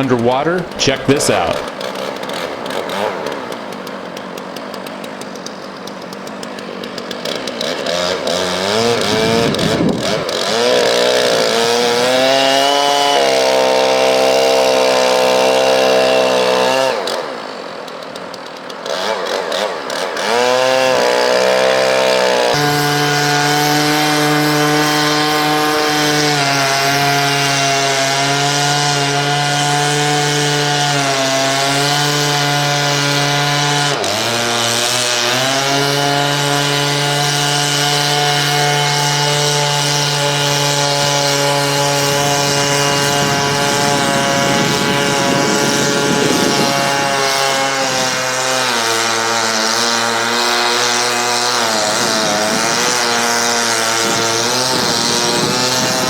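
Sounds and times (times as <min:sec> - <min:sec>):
chainsaw running underwater: 0:00.0 - 0:56.0.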